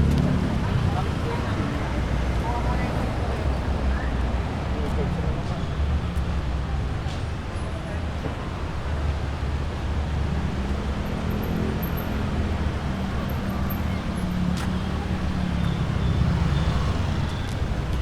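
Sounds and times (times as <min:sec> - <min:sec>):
urban street rumble: 0:00.0 - 0:18.0.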